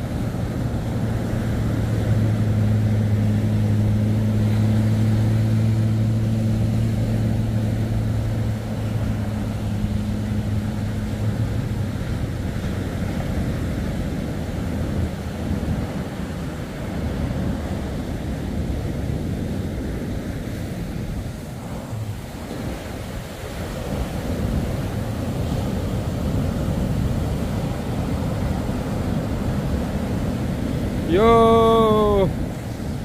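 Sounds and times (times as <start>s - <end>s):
engine running low: 0.0s - 33.0s
surf washing: 0.0s - 33.0s
wind: 0.0s - 33.0s.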